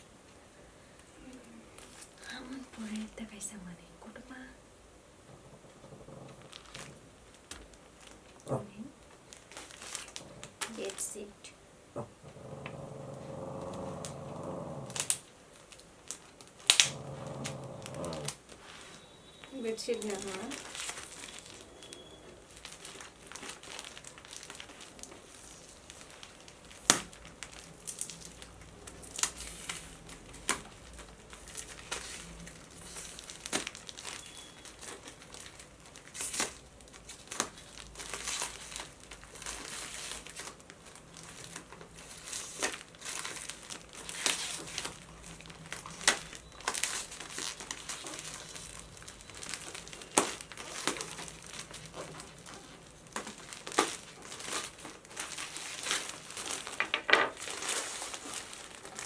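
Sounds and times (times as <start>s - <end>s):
packaging rustling and crinkling: 0.9s - 3.4s, 5.3s - 59.0s.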